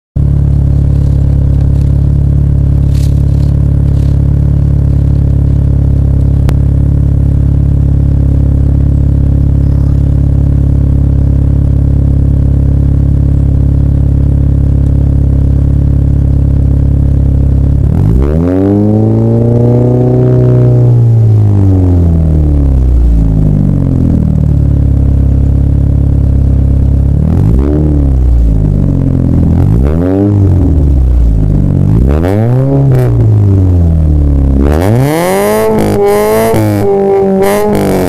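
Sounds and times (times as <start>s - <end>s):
car engine idling and revving: 0.2s - 38.0s.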